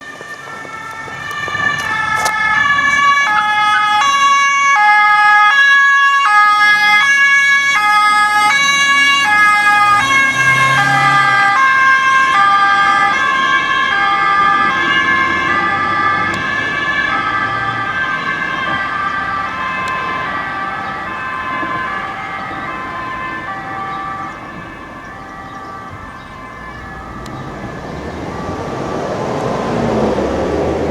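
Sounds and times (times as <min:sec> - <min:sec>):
car engine and tyre noise: 0:00.0 - 0:30.9
two-tone police siren: 0:00.0 - 0:30.9.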